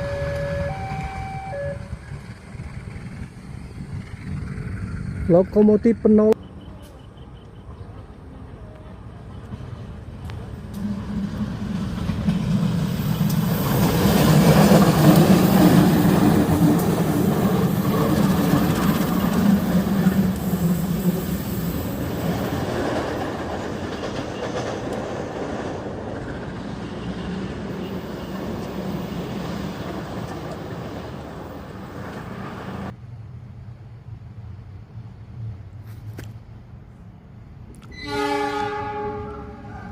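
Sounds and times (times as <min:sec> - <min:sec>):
diesel locomotive engine: 0:00.0 - 0:39.9
train rolling noise: 0:00.0 - 0:39.9.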